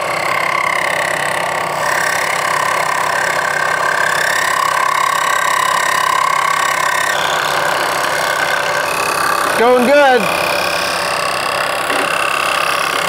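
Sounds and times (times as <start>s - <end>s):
drill bit cutting plastic pipe: 0.0s - 13.0s
milling machine spindle whine: 0.0s - 13.0s.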